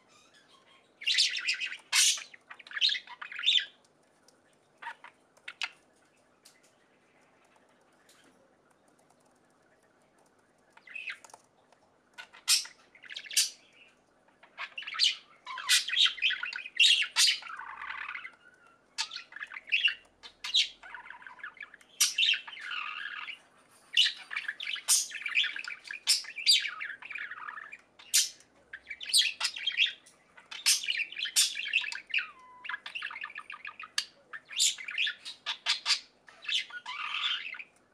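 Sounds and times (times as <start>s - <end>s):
budgerigars chirping and squawking: 0.0s - 3.8s, 4.8s - 5.8s, 10.8s - 11.4s, 12.2s - 37.8s
faint steady hum: 0.0s - 37.9s.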